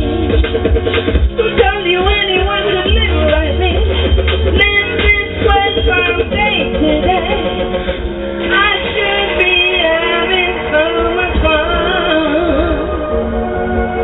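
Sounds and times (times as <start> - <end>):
woman singing into a microphone: 0.0 - 13.2
backing track with heavy bass: 0.0 - 14.0.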